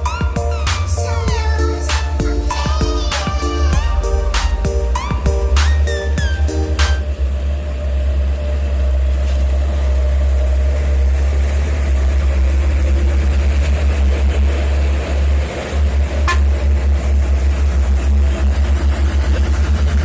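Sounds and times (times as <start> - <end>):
dump truck diesel engine rumble: 0.0 - 20.0.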